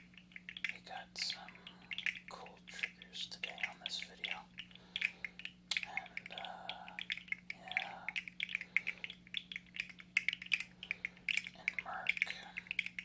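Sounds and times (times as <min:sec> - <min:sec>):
plastic segments clicking: 0:00.0 - 0:13.0.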